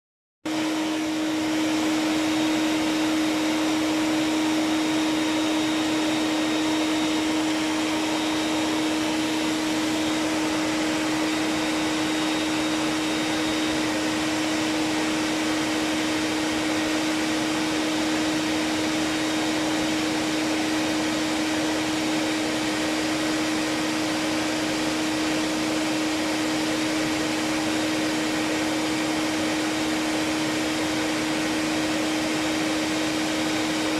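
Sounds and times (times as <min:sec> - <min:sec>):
vacuum cleaner running: 0:00.4 - 0:33.9.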